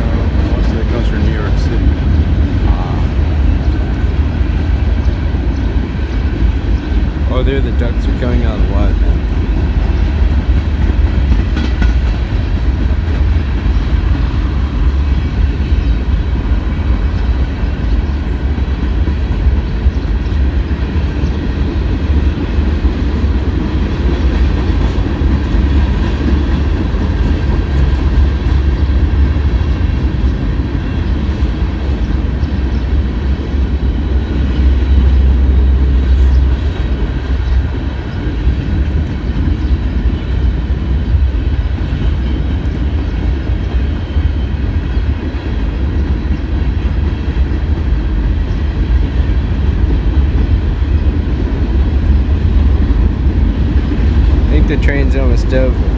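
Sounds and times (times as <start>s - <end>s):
train cars rattling: 0.0s - 55.9s
train wheels rumbling on rails: 0.0s - 55.9s.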